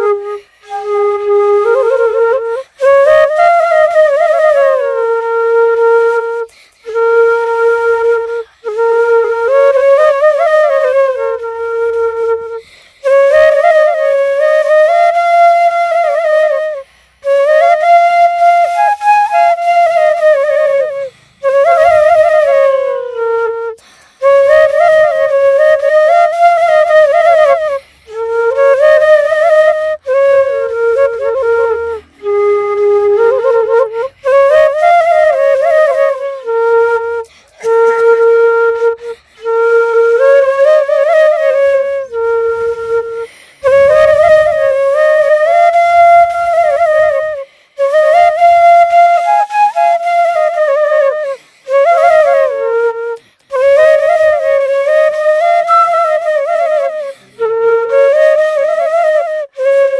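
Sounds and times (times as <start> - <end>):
solo flute melody: 0.0 - 59.9.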